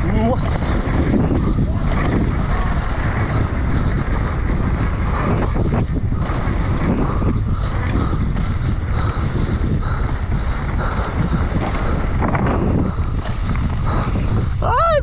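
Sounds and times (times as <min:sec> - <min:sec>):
tyres rolling on dirt trail: 0:00.0 - 0:15.0
wind on microphone: 0:00.0 - 0:15.0
bike knocking over bumps: 0:00.9 - 0:14.3.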